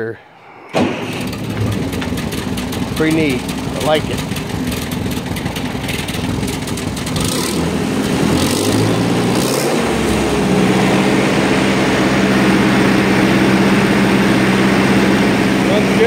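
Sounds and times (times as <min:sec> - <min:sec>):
tractor engine running: 0:00.7 - 0:16.0.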